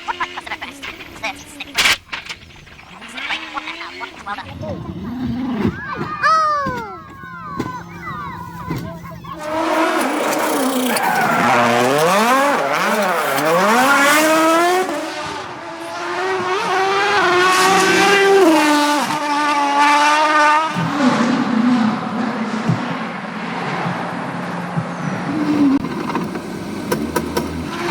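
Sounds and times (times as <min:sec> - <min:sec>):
rally car engine revving hard: 0:03.1 - 0:06.2, 0:07.1 - 0:27.9.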